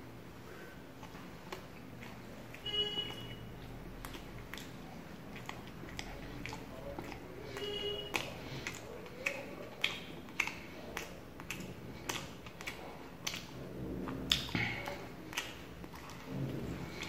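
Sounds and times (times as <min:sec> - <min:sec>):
person chewing food: 0:00.4 - 0:17.0.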